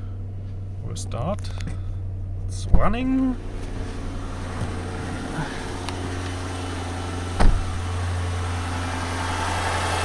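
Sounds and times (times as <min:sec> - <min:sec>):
car engine idling: 0:00.0 - 0:10.0
engine ticking: 0:00.0 - 0:10.0.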